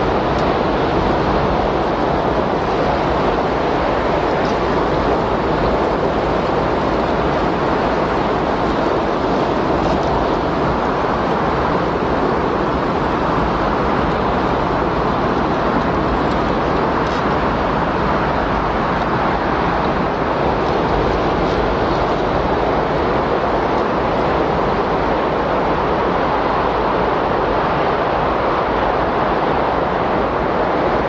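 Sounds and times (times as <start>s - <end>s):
loud rushing wind: 0.0s - 31.0s.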